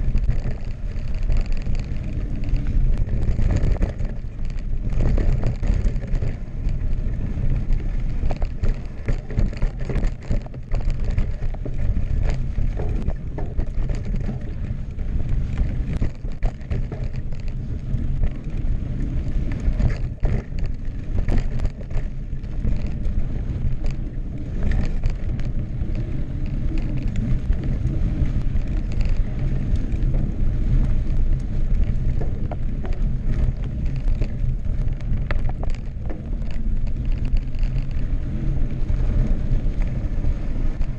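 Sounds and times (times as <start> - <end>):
bike knocking and rattling: 0.0 - 40.9
bike tyres crunching over dirt: 0.0 - 40.9
wind buffeting the microphone: 0.0 - 40.9.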